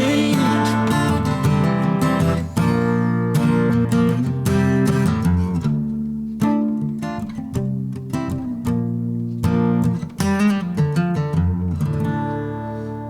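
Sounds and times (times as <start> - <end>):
strummed acoustic guitar chords: 0.0 - 13.0.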